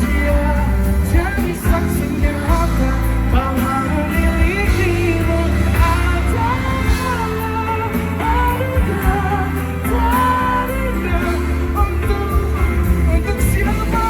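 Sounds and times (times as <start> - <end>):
live pop band playing: 0.0 - 14.0
person singing: 0.0 - 14.0.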